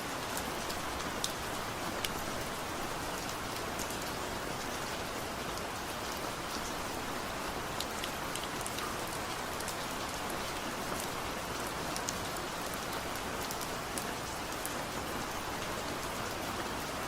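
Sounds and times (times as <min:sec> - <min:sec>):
gentle rain falling: 0:00.0 - 0:17.0.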